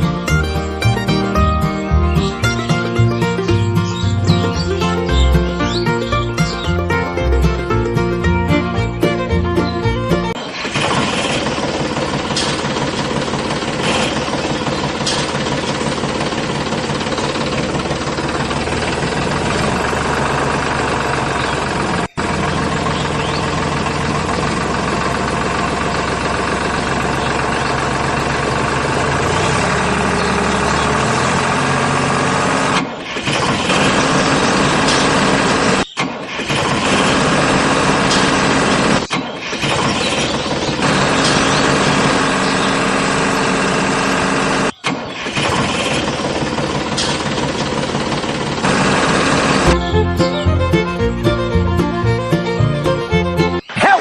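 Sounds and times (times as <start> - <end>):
mini tractor engine running: 0.0 - 53.7.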